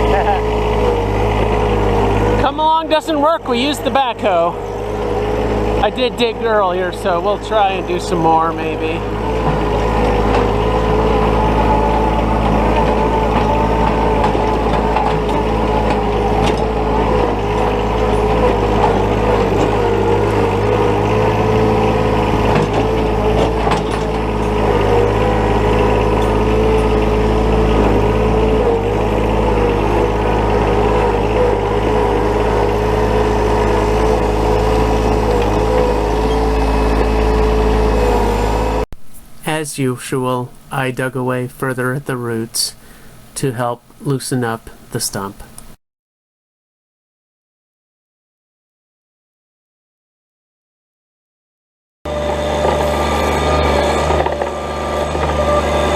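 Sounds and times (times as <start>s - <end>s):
tractor diesel engine running: 0.0s - 45.6s, 52.1s - 55.9s.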